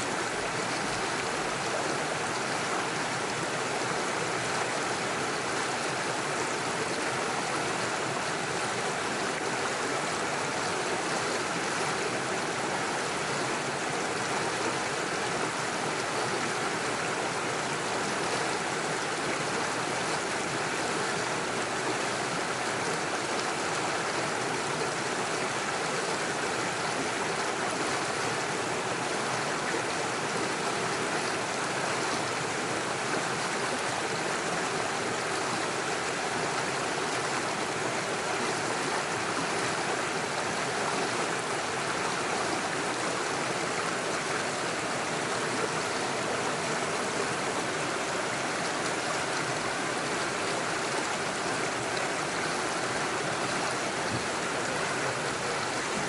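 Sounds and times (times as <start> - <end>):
stream splashing over stones: 0.0 - 56.0.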